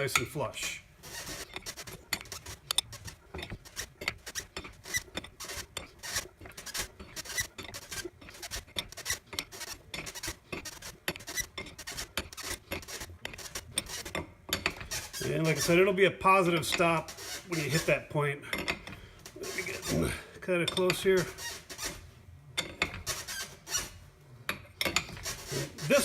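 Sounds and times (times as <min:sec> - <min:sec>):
wrench clicking and scraping metal: 0:00.0 - 0:17.9, 0:18.5 - 0:26.0.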